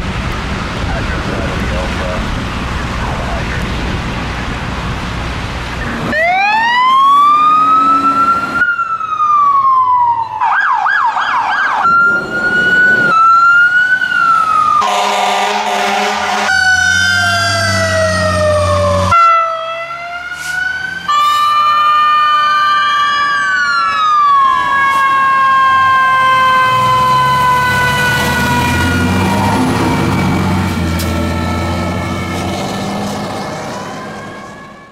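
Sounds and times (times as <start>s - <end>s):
fire truck sirens: 0.0s - 34.9s
truck engine noise: 0.0s - 34.9s.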